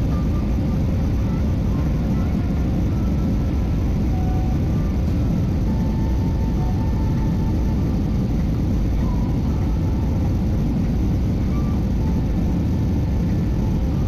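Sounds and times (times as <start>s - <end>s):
jet engine cabin rumble: 0.0s - 14.0s.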